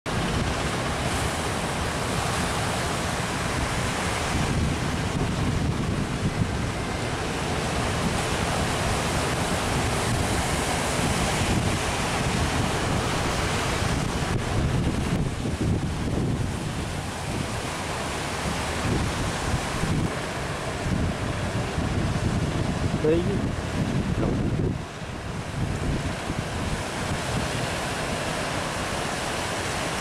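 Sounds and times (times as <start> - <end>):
ocean surf breaking: 0.1 - 30.0
wind buffeting microphone: 0.1 - 30.0.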